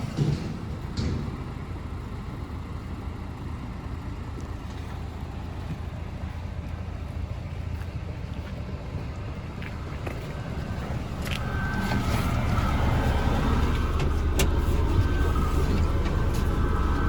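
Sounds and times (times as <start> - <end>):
bus diesel engine rumble: 0.0 - 17.0
road noise: 0.0 - 17.0.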